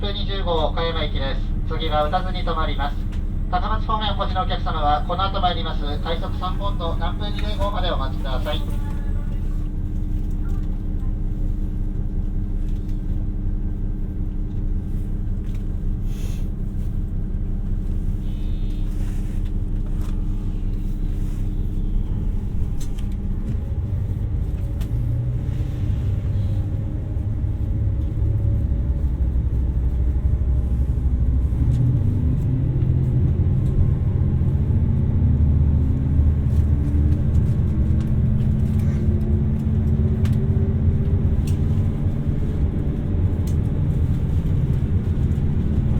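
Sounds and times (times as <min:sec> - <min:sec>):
diesel railcar engine running: 0:00.0 - 0:45.9.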